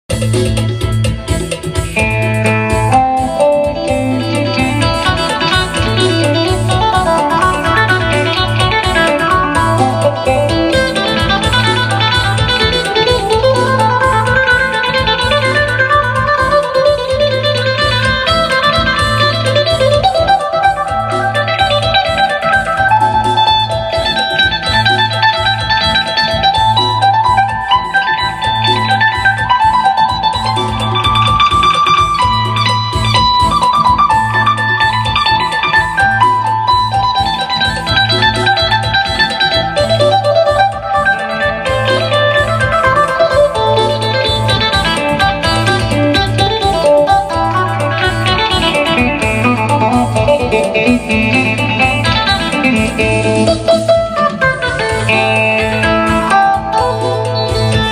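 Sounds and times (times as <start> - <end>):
plucked lute melody: 0.5 - 57.9.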